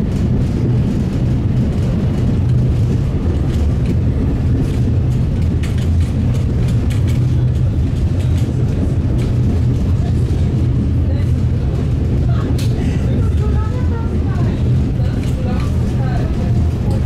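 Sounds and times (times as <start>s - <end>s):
tram running gear rumble: 0.0s - 17.0s.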